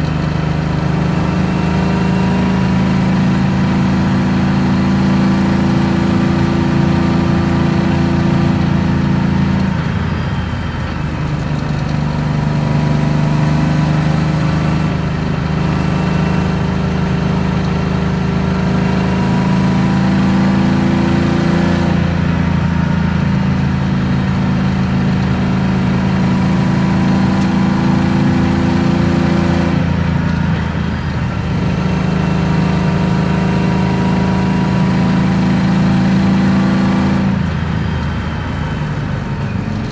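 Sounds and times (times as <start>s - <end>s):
car engine heard from inside: 0.0s - 39.9s.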